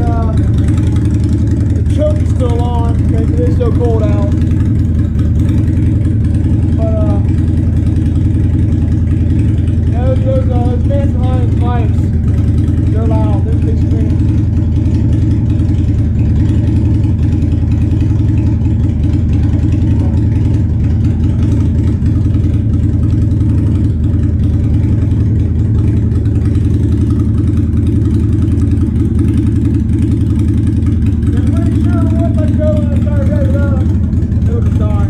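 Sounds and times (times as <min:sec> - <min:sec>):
motorcycle engine idling: 0:00.0 - 0:35.0.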